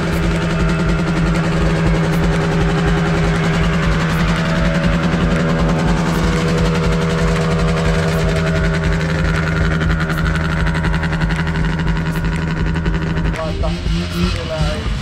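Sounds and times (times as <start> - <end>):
snowmobile engine idling: 0.0 - 15.0.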